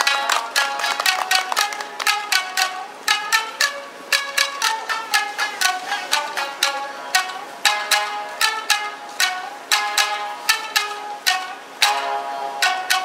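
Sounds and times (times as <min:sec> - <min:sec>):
shamisen ensemble plucking: 0:00.0 - 0:13.0.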